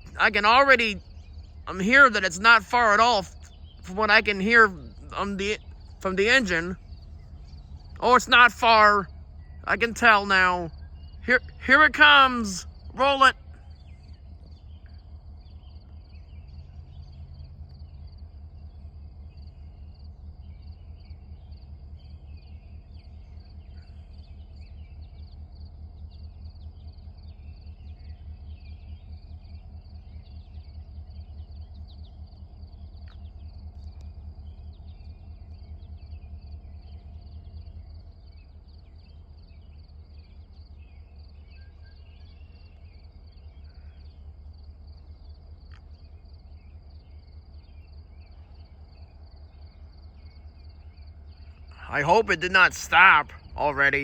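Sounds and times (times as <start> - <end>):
crickets and insects chirping: 0.0 - 54.0
distant diesel locomotive rumble: 0.0 - 54.0.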